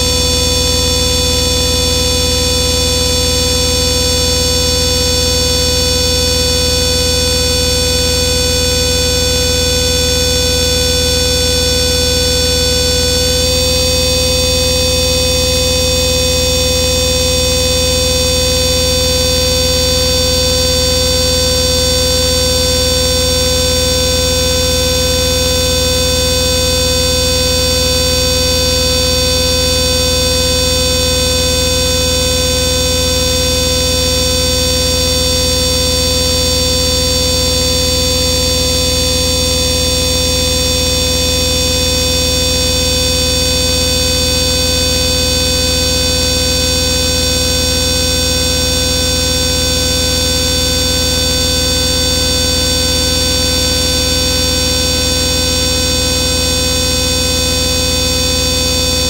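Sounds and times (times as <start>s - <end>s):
synthesizer noise drone: 0.0s - 59.0s.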